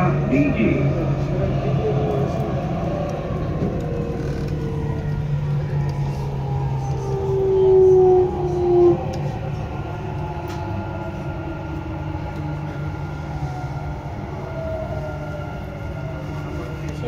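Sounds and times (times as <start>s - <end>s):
train hum: 0.0s - 17.0s.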